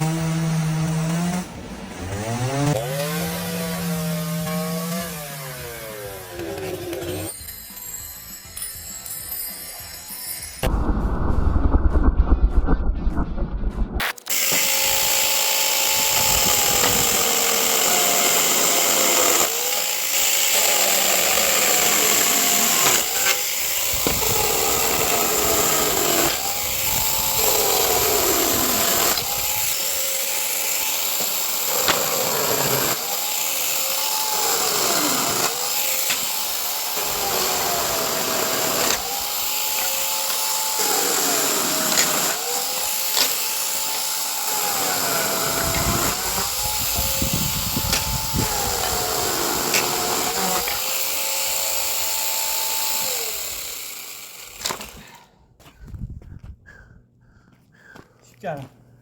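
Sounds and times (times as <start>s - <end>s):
chainsaw cutting wood: 0.0s - 7.9s, 14.0s - 55.3s.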